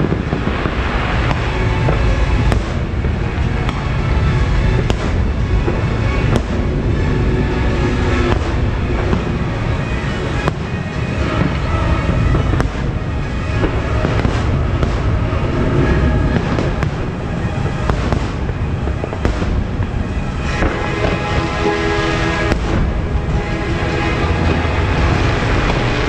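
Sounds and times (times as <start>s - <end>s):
fireworks rumbling bursts: 0.0s - 26.0s
fireworks sharp cracks: 0.0s - 26.0s
music soundtrack: 0.0s - 26.0s.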